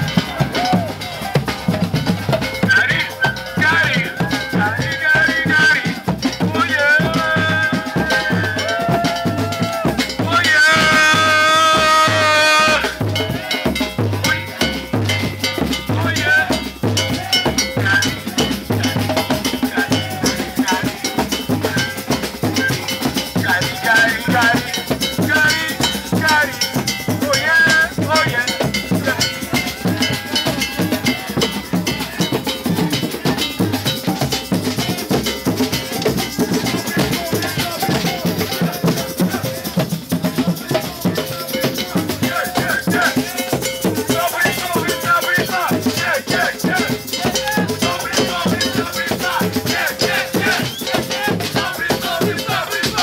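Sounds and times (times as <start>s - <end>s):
clanking cowbell-like percussion: 0.0s - 53.0s
music with steady drumbeat: 0.0s - 53.0s.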